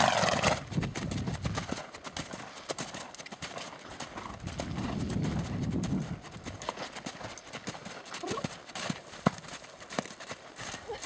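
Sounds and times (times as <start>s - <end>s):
horse hoofbeats on dirt: 0.0s - 11.0s.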